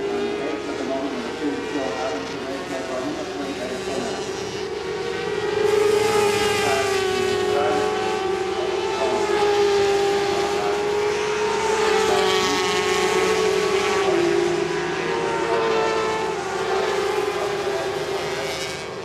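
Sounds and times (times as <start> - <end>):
racing motorcycles revving: 0.0 - 19.0.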